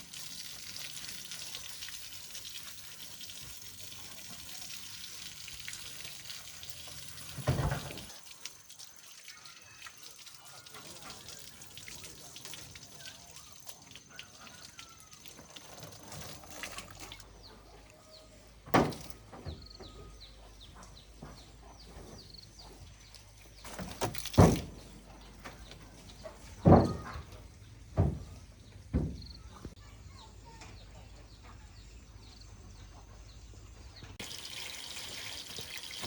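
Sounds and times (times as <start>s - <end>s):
birds chirping: 3.7s - 36.0s.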